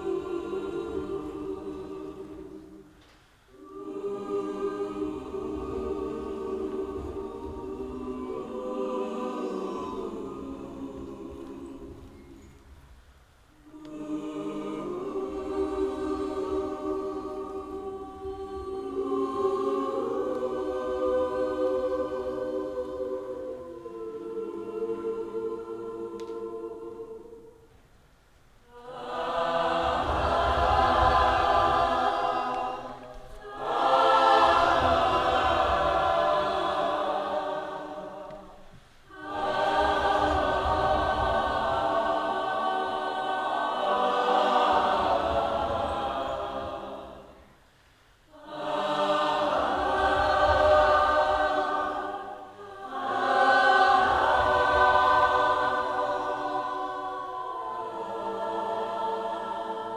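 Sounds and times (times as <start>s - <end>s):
group of voices singing: 0.0s - 13.0s, 13.6s - 27.8s, 28.6s - 59.9s.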